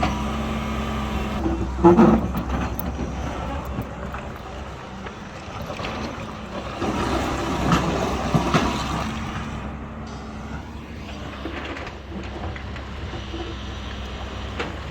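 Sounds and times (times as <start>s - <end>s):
diesel engine rumbling: 0.0s - 14.9s.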